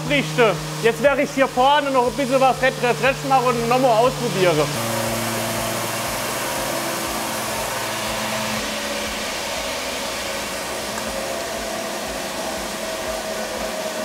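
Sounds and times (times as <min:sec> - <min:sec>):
low hum: 0:00.0 - 0:14.0
workshop blower rushing air: 0:00.0 - 0:14.0.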